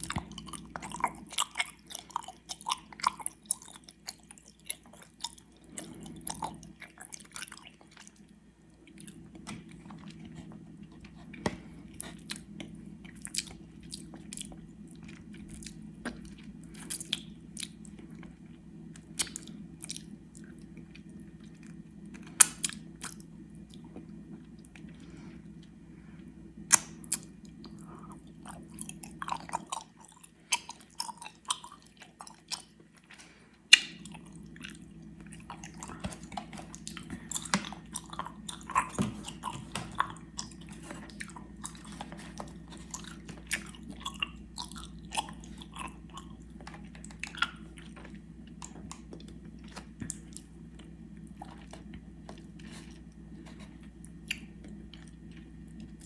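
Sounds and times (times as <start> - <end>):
chewing gummy candy: 0.0 - 56.0
steady low hum: 0.0 - 56.0.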